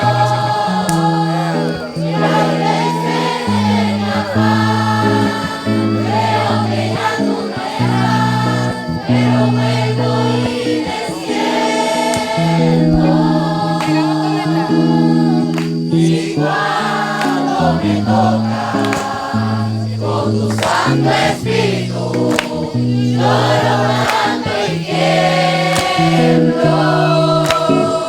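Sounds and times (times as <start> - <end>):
held low instrumental notes: 0.0 - 27.4
group singing worship song: 0.0 - 28.0.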